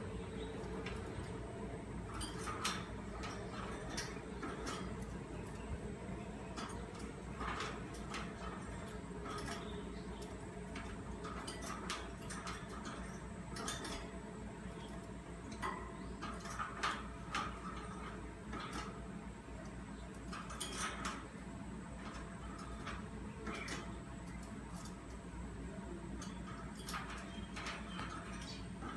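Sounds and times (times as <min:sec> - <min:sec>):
low steady background hum: 0:00.0 - 0:28.9.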